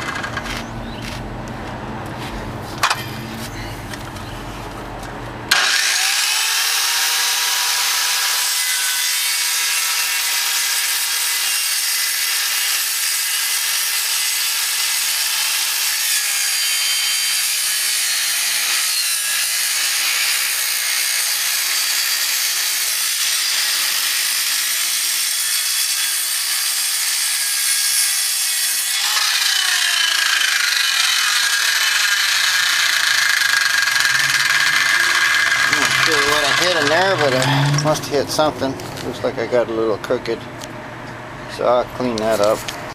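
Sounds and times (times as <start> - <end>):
circular saw cutting wood: 5.5 - 40.4.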